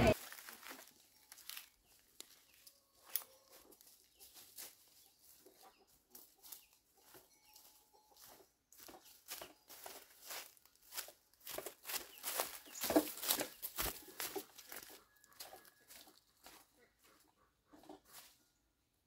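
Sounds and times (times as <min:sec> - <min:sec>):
footsteps crunching on dry leaves: 0:00.0 - 0:16.6.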